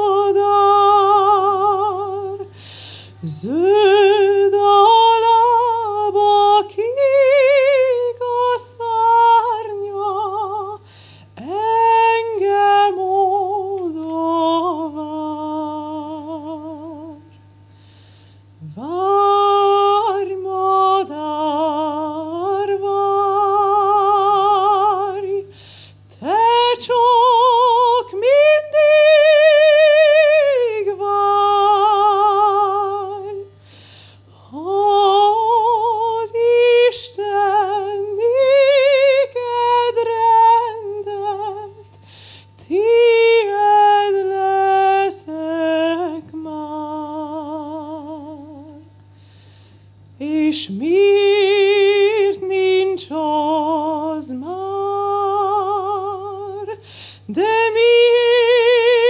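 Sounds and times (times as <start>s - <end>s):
woman singing unaccompanied: 0.0s - 17.6s, 18.6s - 33.6s, 34.4s - 49.1s, 50.1s - 59.0s
low hum: 0.0s - 59.0s.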